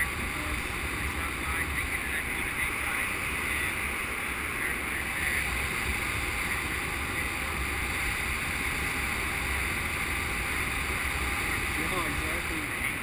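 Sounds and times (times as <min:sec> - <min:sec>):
low buffeting rumble: 0:00.0 - 0:13.0.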